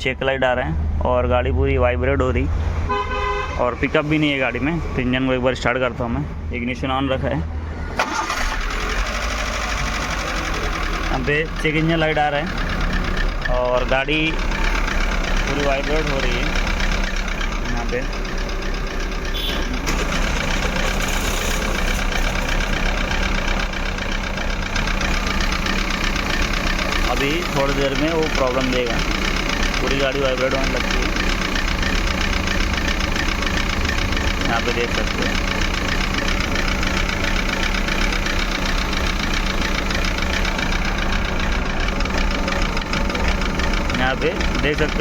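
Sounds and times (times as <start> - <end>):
car engine idling rough: 7.2 - 45.0.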